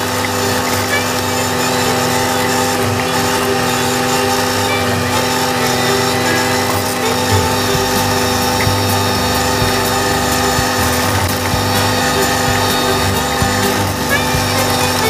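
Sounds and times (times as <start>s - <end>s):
flail mower cutting grass: 0.0s - 15.0s
tractor diesel engine running: 0.0s - 15.0s.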